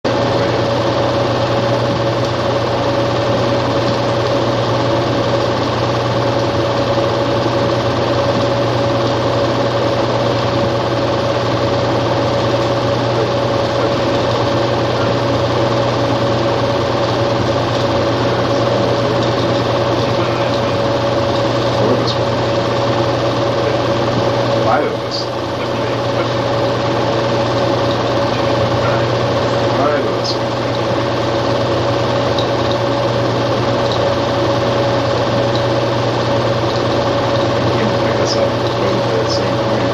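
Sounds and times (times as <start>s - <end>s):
small machine whirring: 0.1s - 39.9s.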